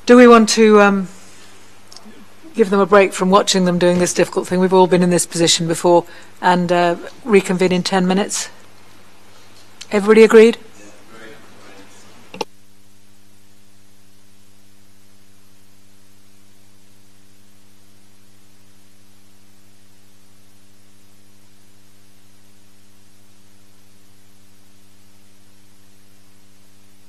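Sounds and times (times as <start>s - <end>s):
constant hiss: 0.0s - 27.0s
electrical mains hum: 0.0s - 27.0s.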